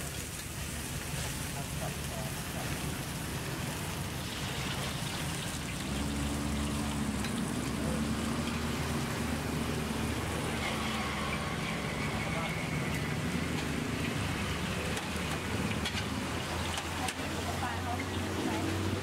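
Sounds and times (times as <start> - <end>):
steaks sizzling on a griddle: 0.0 - 18.6
low engine-like hum: 0.3 - 19.0.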